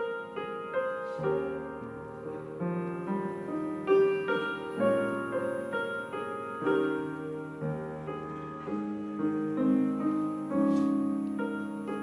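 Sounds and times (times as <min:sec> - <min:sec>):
grand piano playing chords: 0:00.0 - 0:12.0.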